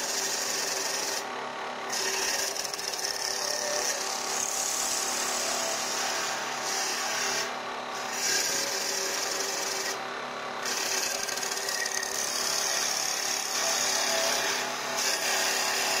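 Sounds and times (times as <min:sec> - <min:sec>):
faint motor hum: 0:00.0 - 0:16.0
lathe cutter shaving wood: 0:00.0 - 0:16.0.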